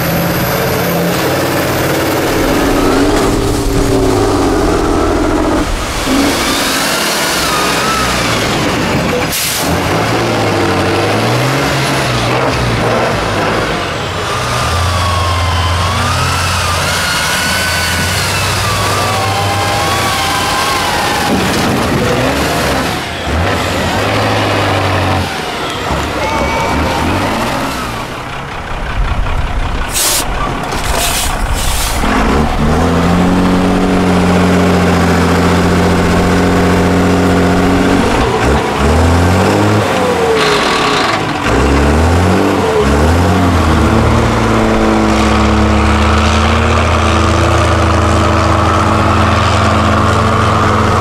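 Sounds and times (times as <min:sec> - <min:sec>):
diesel truck engine running: 0:00.0 - 0:51.0.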